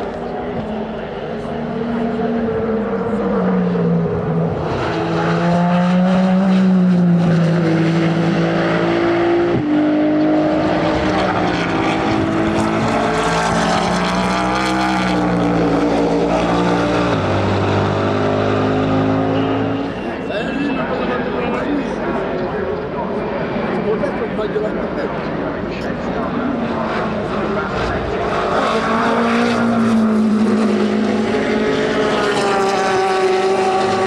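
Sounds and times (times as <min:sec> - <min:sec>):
race car engines accelerating: 0:00.0 - 0:34.0.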